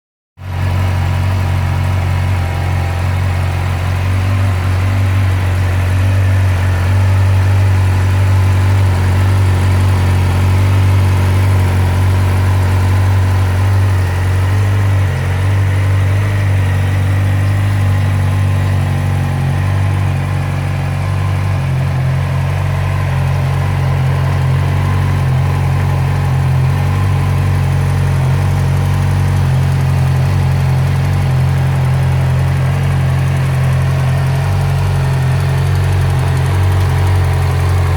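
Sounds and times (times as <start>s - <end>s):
motorcycle engine idling: 0.4s - 37.9s.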